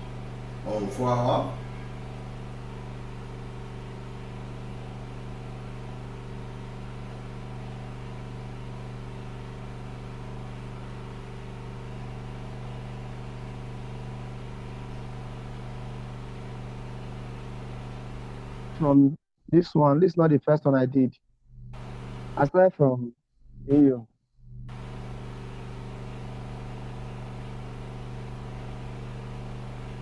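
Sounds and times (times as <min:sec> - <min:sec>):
low machine hum: 0:00.0 - 0:19.0, 0:21.5 - 0:22.6, 0:23.5 - 0:30.0.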